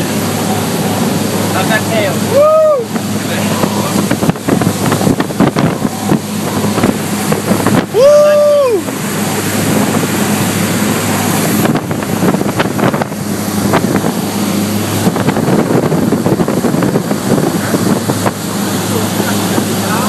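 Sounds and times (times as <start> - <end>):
boat engine drone: 0.0 - 20.0
water rushing: 0.0 - 20.0
wind on microphone: 0.0 - 20.0.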